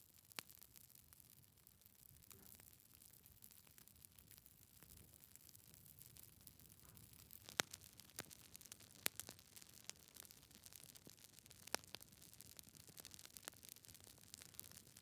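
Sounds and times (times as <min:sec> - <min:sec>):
burning logs crackling: 0:00.0 - 0:15.0
faint steady hiss: 0:00.0 - 0:15.0.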